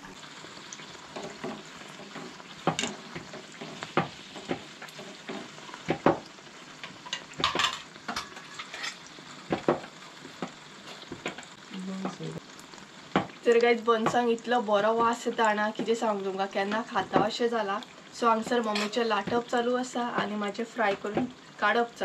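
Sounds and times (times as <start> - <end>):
dough sizzling in hot oil: 0.0 - 22.0.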